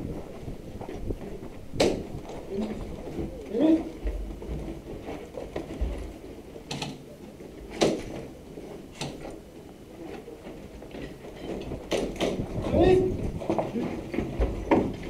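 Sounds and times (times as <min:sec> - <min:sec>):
footsteps on rubble-covered concrete: 0:00.0 - 0:06.4, 0:07.3 - 0:15.0.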